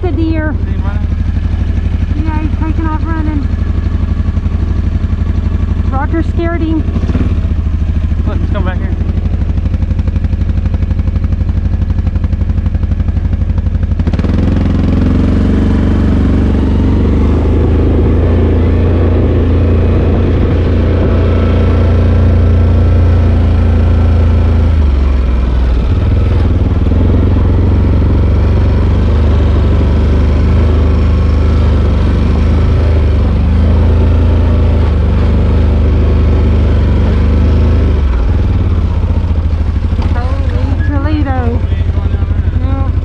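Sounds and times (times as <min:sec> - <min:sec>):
atv engine running: 0:00.0 - 0:43.0.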